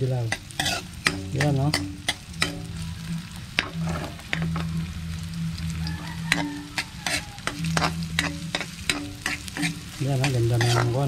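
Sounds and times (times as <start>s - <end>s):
low steady hum: 0.0s - 11.0s
turmeric sizzling in oil: 0.0s - 11.0s
metal spoon scraping wok: 0.3s - 4.9s, 5.8s - 11.0s.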